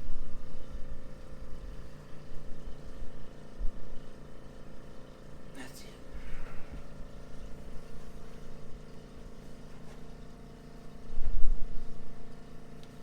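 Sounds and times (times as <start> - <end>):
mechanical hum of equipment: 0.0 - 13.0.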